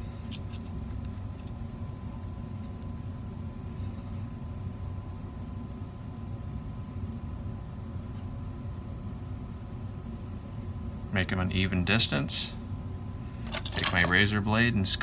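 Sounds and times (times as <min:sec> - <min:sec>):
faint steady whine: 0:00.0 - 0:15.0
low workshop hum: 0:00.0 - 0:15.0.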